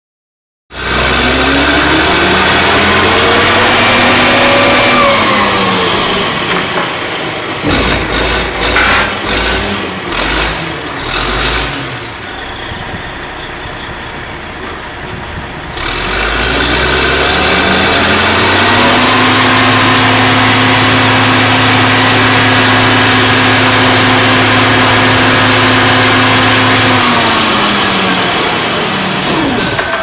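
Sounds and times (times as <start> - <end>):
oil rig machinery running loudly: 0.7 - 30.0.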